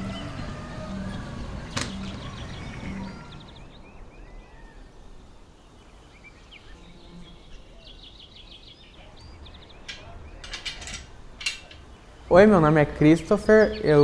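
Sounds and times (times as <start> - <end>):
birds chirping: 0.0 - 14.0
faint outdoor background noise: 0.0 - 14.0.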